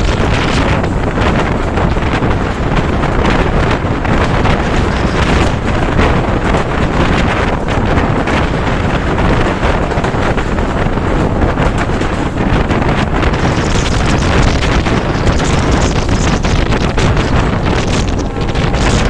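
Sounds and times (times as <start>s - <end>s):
train running on track: 0.0s - 19.0s
wind rushing over microphone: 0.0s - 19.0s.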